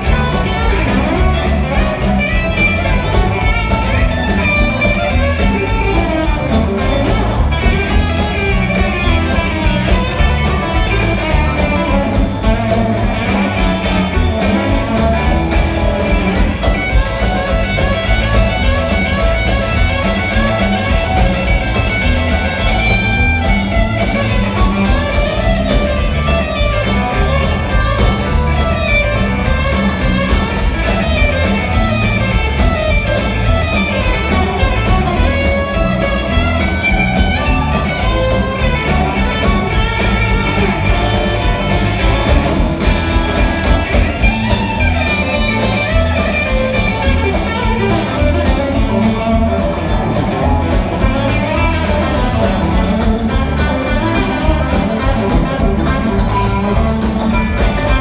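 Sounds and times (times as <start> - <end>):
live blues band playing: 0.0 - 58.0.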